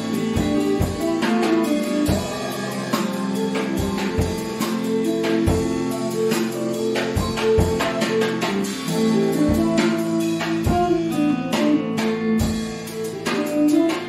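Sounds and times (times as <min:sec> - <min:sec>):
guitar-led band jamming: 0:00.0 - 0:14.0.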